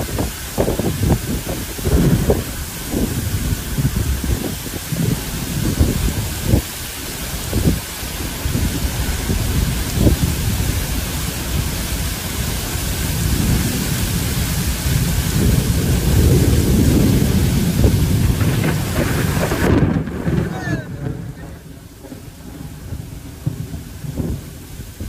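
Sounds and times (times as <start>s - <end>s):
gusty wind rumble: 0.0s - 25.0s
torrential rain hiss: 0.0s - 25.0s.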